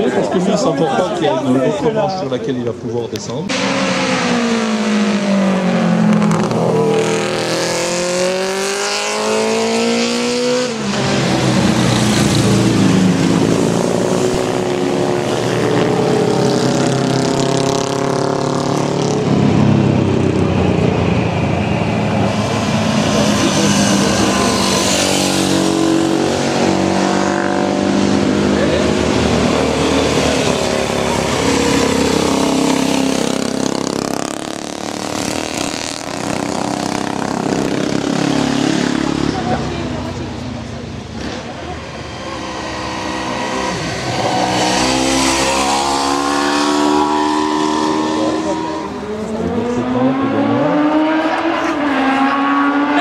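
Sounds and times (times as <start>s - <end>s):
motorcycles passing at speed: 3.5s - 53.0s.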